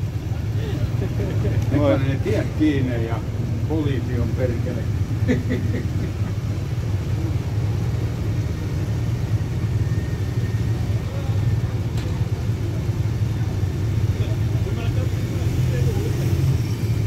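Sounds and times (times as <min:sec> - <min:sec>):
motorcycles and cars idling: 0:00.0 - 0:17.0.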